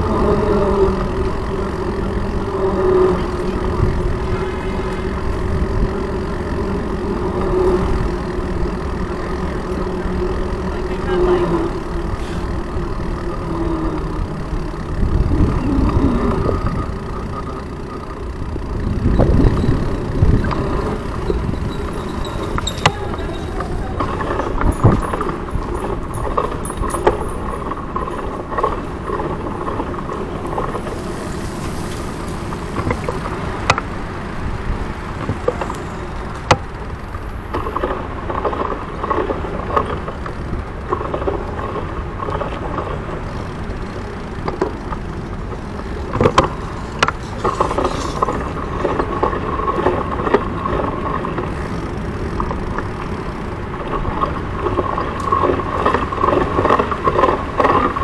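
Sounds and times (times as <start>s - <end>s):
bicycle rumbling and rattling: 0.0s - 58.0s
bike knocking over bumps: 0.0s - 58.0s.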